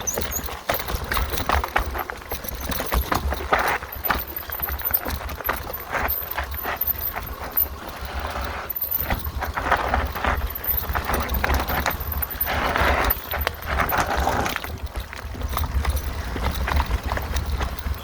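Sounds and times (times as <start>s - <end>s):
bike clattering over bumps: 0.0s - 18.0s
bike tyres crunching over dirt: 0.0s - 18.0s.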